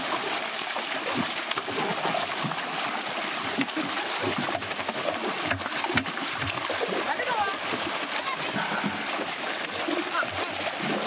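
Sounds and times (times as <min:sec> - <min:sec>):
water pouring and splashing: 0:00.0 - 0:11.0.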